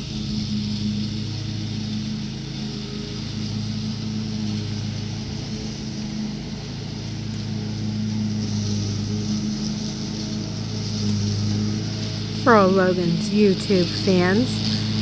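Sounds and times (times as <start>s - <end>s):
riding lawn mower engine: 0.0s - 15.0s.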